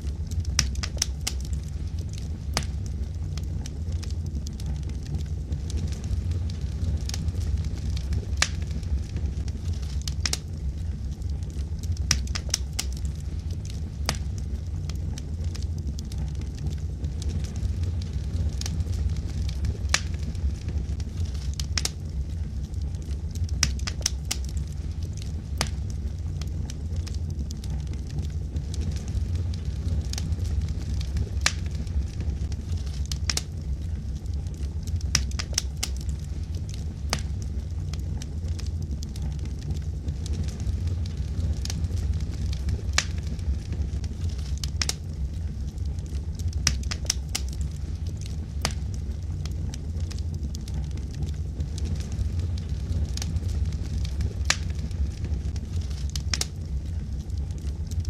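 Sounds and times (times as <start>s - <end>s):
wood logs burning: 0.0s - 58.0s.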